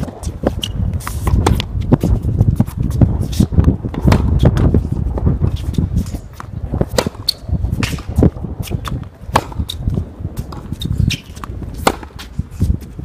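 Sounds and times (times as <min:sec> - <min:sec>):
tennis ball struck and bouncing: 0:00.0 - 0:02.7, 0:03.3 - 0:12.3
steady low rumble: 0:00.0 - 0:13.0.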